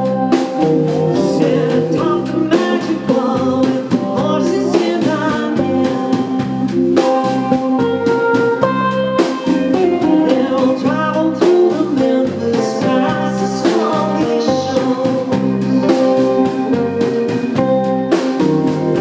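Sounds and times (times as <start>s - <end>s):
live band playing country rock: 0.0s - 19.0s
pitch-bending guitar notes: 0.0s - 19.0s.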